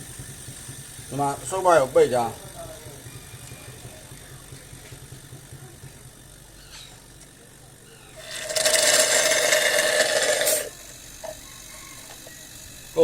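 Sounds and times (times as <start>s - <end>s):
air hissing through pipe: 0.0s - 5.2s, 7.8s - 13.0s
refrigerator compressor humming: 0.0s - 13.0s.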